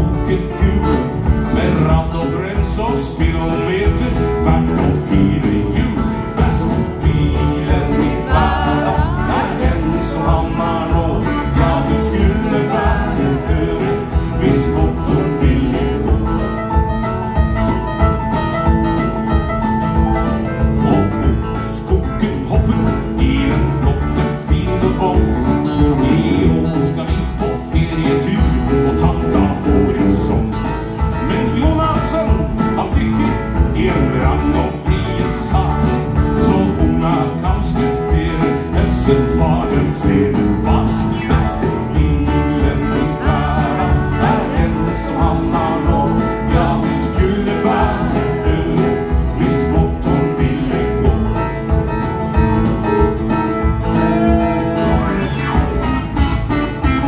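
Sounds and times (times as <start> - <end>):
man singing: 0.0 - 17.5, 20.6 - 55.8
live country band: 0.0 - 57.0.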